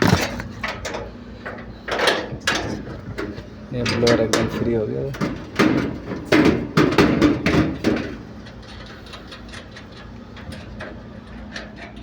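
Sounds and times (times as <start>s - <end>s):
metal knocks and clanks: 0.0s - 12.0s.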